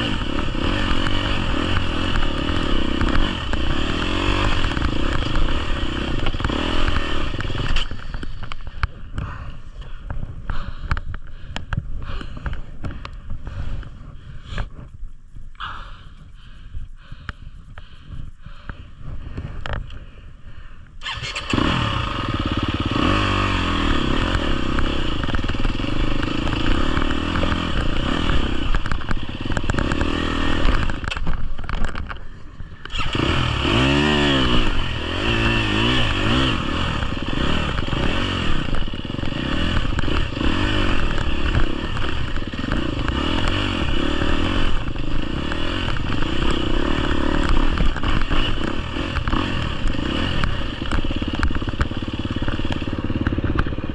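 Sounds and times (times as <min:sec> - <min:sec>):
dirt bike engine revving: 0:00.0 - 0:14.7, 0:21.0 - 0:53.9.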